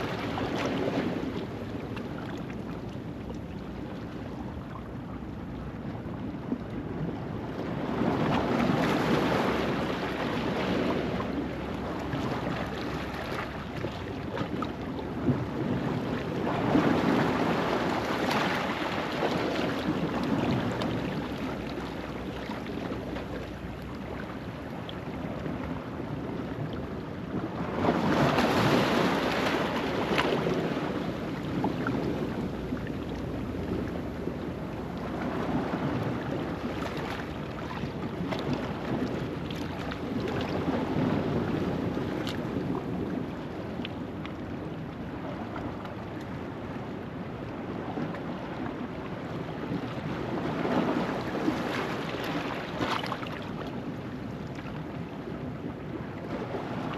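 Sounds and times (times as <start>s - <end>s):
waves washing over rocks: 0.0s - 2.8s, 7.6s - 46.0s, 46.6s - 56.9s
wind buffeting microphone: 0.0s - 52.5s.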